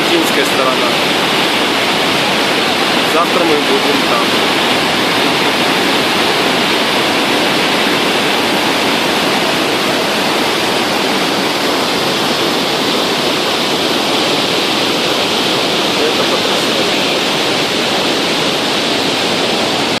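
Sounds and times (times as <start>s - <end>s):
huge waterfall rushing: 0.0s - 20.0s.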